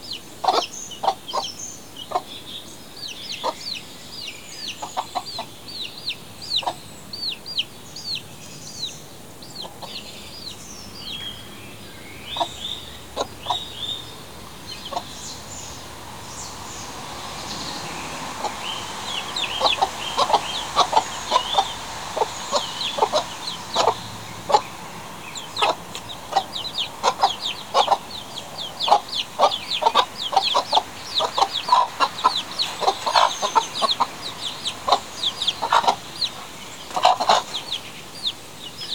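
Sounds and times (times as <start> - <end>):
hen clucking: 0.0 - 2.3, 3.0 - 3.8, 4.6 - 7.6, 9.5 - 10.6, 12.3 - 15.6, 16.4 - 38.9
chicks peeping: 0.0 - 38.9.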